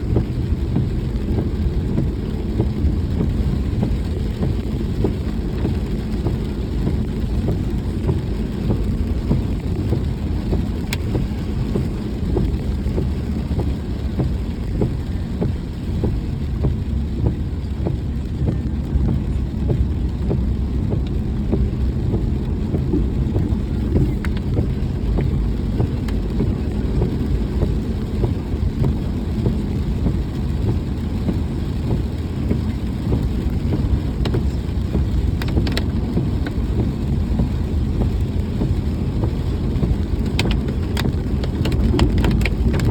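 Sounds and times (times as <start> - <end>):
raindrops pattering: 0.0 - 42.9
vehicle road and engine rumble: 0.0 - 42.9.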